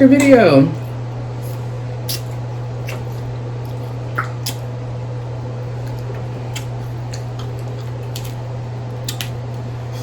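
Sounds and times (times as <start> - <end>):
wet squishes of eating: 0.2 - 10.0.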